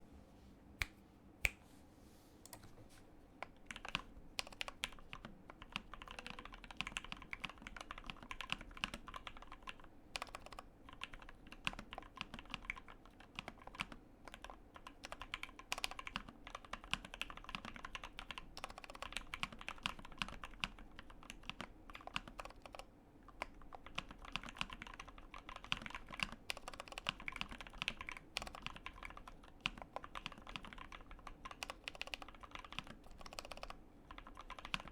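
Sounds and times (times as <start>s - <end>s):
fast typing on mechanical keyboard: 3.6s - 34.9s.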